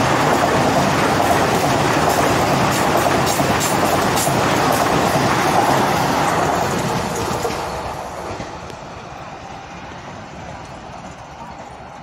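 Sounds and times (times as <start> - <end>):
train passing at high speed: 0.0 - 12.0.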